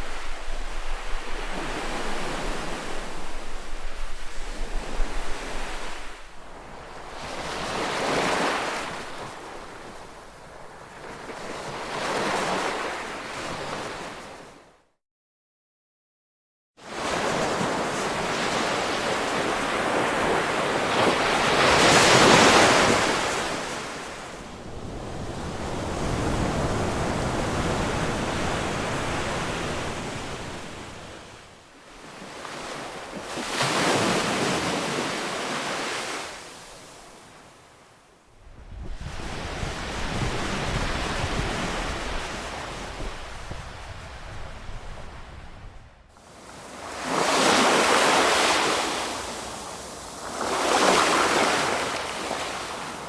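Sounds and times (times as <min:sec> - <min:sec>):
ocean waves breaking: 0:00.0 - 0:14.5, 0:16.9 - 0:37.8, 0:38.8 - 0:53.0.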